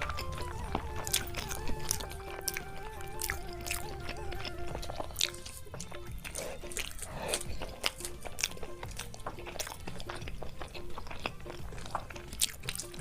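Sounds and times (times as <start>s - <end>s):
people biting and chewing: 0.0s - 13.0s
slow background music: 0.0s - 13.0s
sharp mouth clicks: 1.0s - 13.0s.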